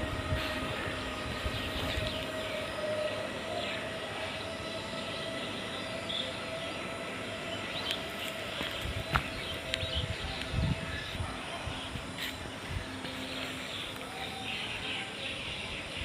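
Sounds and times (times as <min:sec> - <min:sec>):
train rumble and hiss: 0:00.0 - 0:16.0
train whine: 0:00.0 - 0:16.0.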